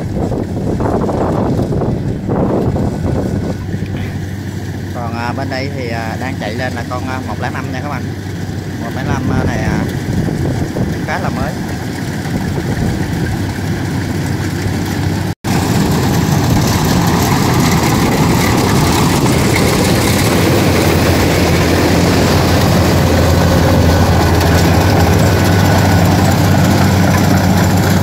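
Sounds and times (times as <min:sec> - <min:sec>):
combine harvester diesel engine: 0:00.0 - 0:28.0.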